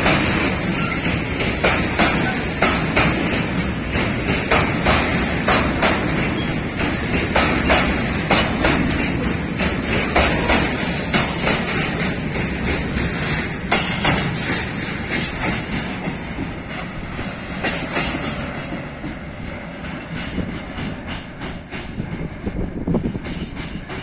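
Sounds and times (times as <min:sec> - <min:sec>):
freight train rumble: 0:00.0 - 0:24.0
train wheels clacking over rail joints: 0:00.0 - 0:24.0.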